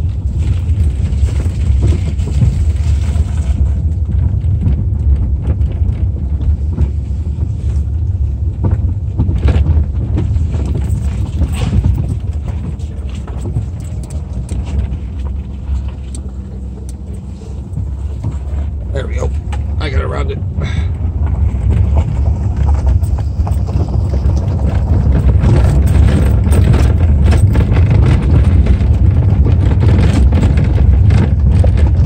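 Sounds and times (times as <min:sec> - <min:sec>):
car rumbling over dirt track: 0:00.0 - 0:32.0
knocks and rattles: 0:00.0 - 0:32.0.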